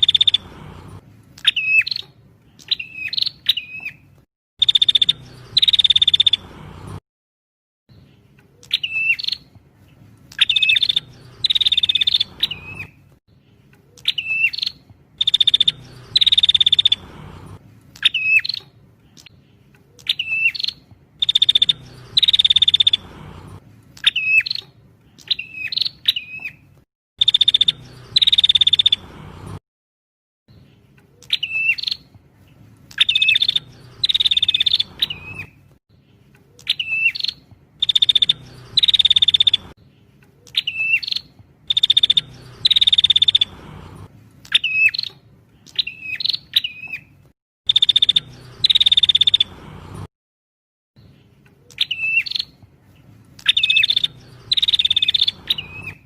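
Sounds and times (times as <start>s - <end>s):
bird song recording: 0.0s - 7.0s, 7.9s - 29.6s, 30.5s - 50.1s, 51.0s - 56.0s.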